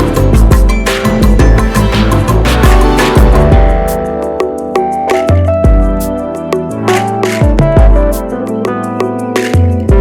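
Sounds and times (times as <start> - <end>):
guitar music with a beat: 0.0 - 10.0.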